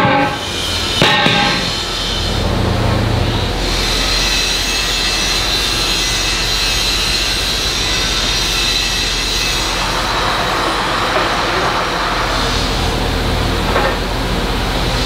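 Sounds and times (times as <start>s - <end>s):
machine hissing whir with whine: 0.1s - 15.0s.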